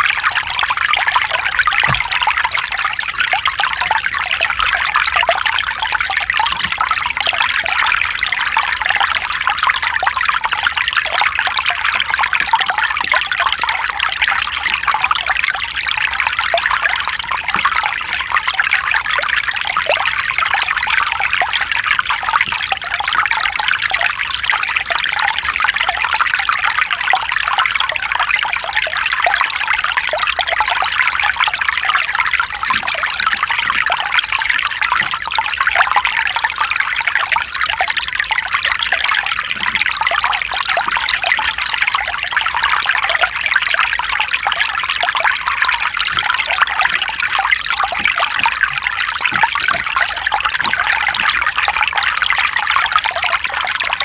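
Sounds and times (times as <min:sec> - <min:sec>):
stream babbling over rocks: 0:00.0 - 0:54.0.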